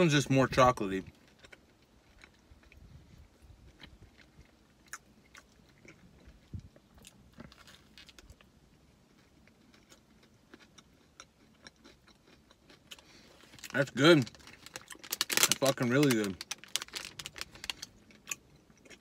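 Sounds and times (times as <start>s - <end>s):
faint chewing crunches: 0.2s - 19.0s.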